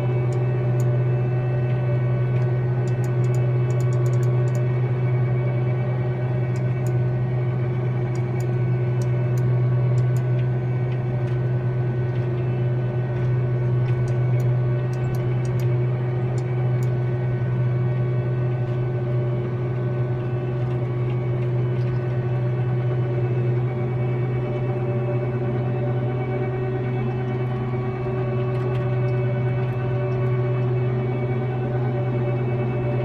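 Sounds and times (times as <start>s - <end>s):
sprayer engine drone: 0.0s - 33.0s.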